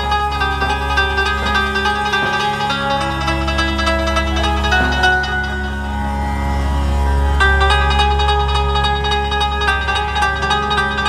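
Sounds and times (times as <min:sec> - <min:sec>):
plucked zither melody: 0:00.0 - 0:11.0
steady low drone: 0:00.0 - 0:11.0.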